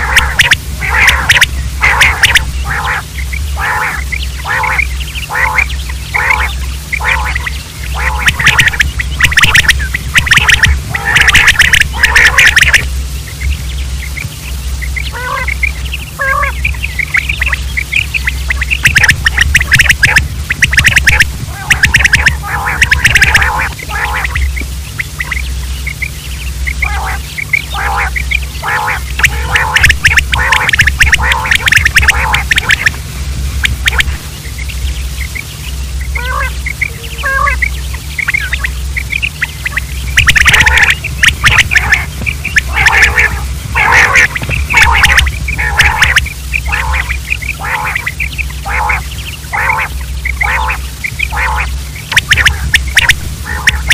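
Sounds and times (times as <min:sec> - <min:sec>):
quails calling: 0:00.0 - 0:53.9
raspy chattering calls: 0:00.0 - 0:53.9
steady low hum: 0:00.0 - 0:53.9.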